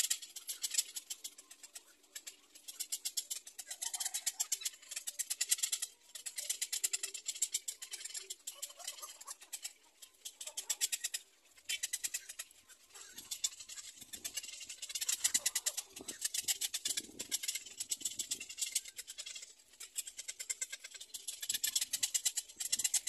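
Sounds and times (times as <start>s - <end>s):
heron chicks clicking calls: 0.0s - 23.0s.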